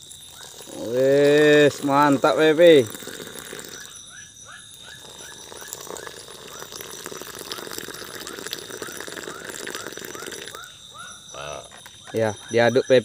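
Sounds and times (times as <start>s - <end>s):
frog calling: 0.0s - 13.0s
high drone of insects: 0.0s - 13.0s.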